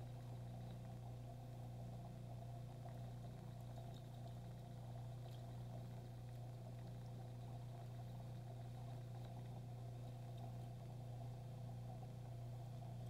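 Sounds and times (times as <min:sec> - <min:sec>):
aquarium equipment humming: 0:00.0 - 0:13.0.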